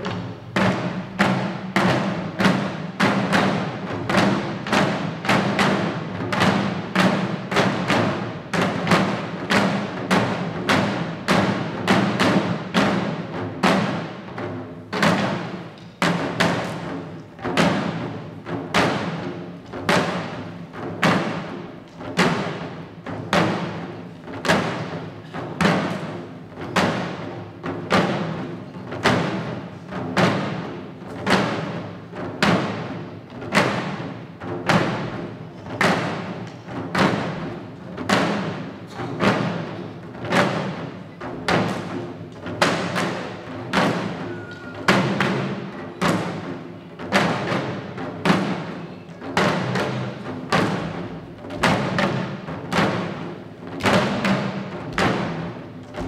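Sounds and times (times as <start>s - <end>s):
drums beating slowly: 0.0s - 56.0s.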